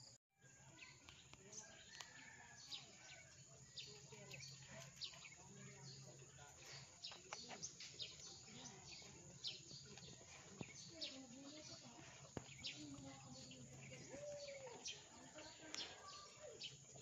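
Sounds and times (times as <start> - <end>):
small birds chirping: 0.0 - 17.0
faint distant voices: 0.4 - 17.0.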